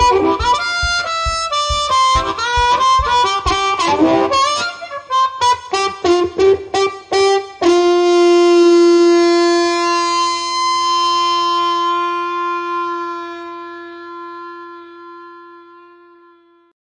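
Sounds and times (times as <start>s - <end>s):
blues harmonica long note: 0.0s - 16.8s.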